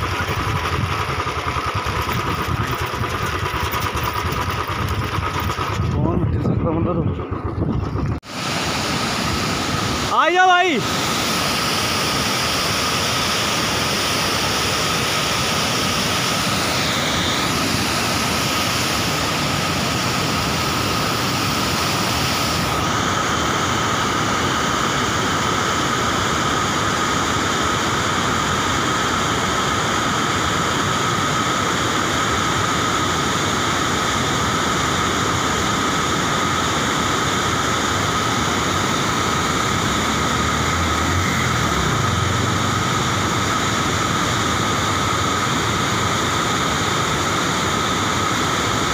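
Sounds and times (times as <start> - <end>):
stream and waterfall rushing: 8.2 - 48.9.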